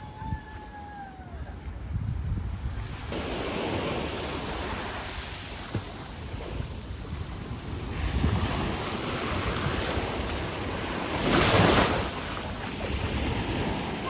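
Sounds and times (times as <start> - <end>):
wind buffeting microphone: 0.0 - 14.0
sea waves washing onto beach: 2.5 - 14.0.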